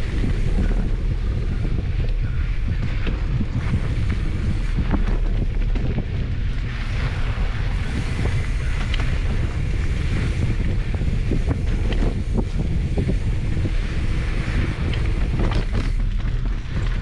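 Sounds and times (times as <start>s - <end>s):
bike knocking and rattling: 0.0s - 17.0s
wind buffeting microphone: 0.0s - 17.0s.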